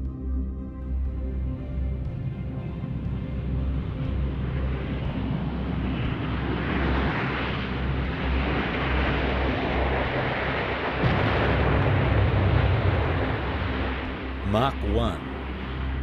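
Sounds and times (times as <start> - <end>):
aircraft rumble: 0.8 - 16.0.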